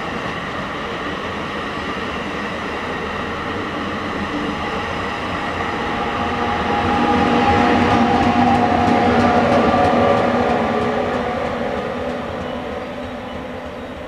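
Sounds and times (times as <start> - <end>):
train coaches rolling past: 0.0 - 14.0.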